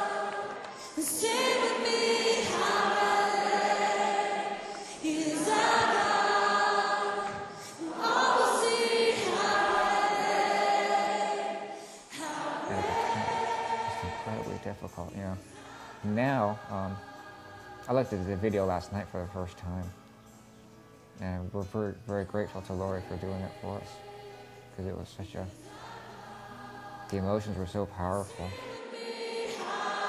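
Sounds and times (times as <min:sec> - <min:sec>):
choir singing: 0:00.0 - 0:20.2, 0:21.2 - 0:30.0.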